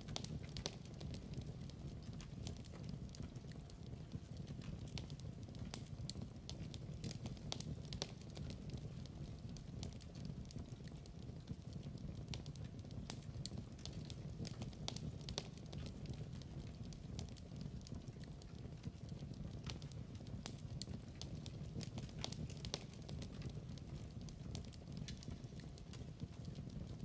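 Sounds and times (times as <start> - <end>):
log fire crackling: 0.0 - 27.0.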